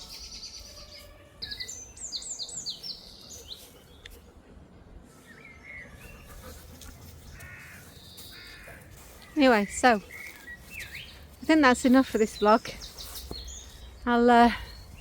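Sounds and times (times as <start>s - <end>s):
small bird singing: 0.0s - 4.2s, 5.2s - 15.0s.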